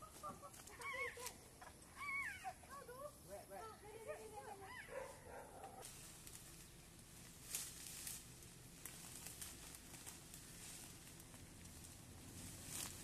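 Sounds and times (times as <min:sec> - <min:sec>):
rustling through undergrowth: 0:00.0 - 0:13.0.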